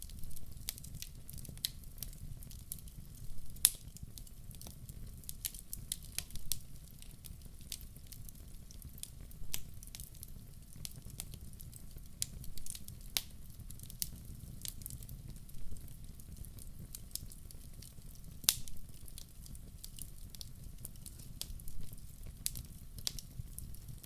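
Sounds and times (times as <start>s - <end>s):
logs crackling and popping in fire: 0.0s - 24.0s.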